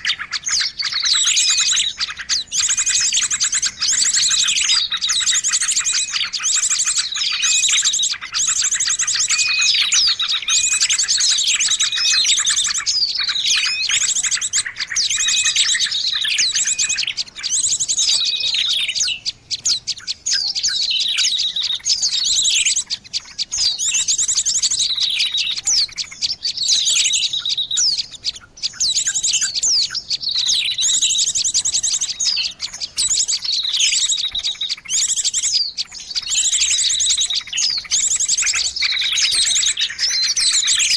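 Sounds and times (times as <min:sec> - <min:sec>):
bird chirps and trills: 0:00.0 - 0:40.9.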